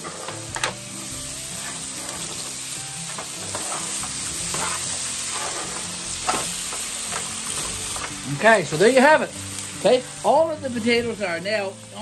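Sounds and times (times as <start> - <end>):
potatoes sizzling on a griddle: 0.0 - 12.0.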